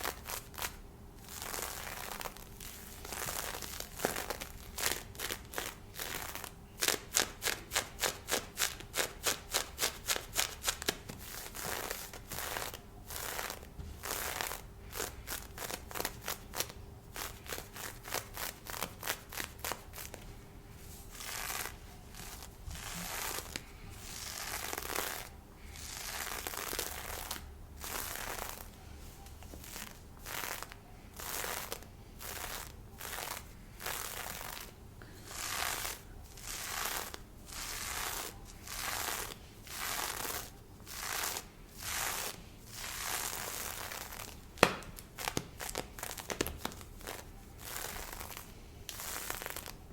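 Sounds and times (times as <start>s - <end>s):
fingers scratching fishnet stockings: 0.0s - 20.2s, 21.1s - 28.8s, 29.5s - 49.8s.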